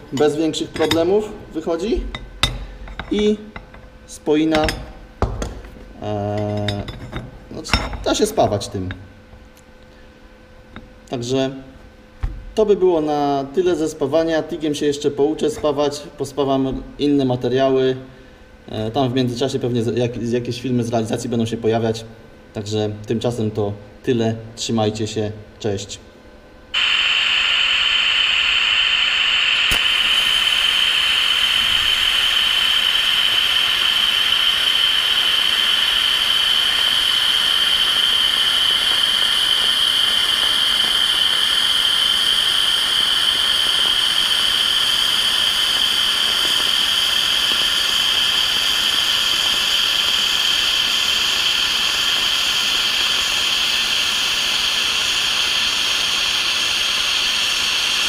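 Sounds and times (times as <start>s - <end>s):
welding arc hiss and whine: 0.0s - 58.0s.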